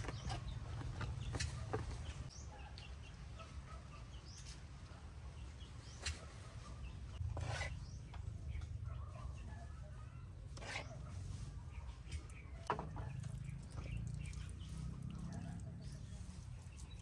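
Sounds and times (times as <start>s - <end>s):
chickens calling: 0.0s - 17.0s
small birds chirping: 0.0s - 17.0s.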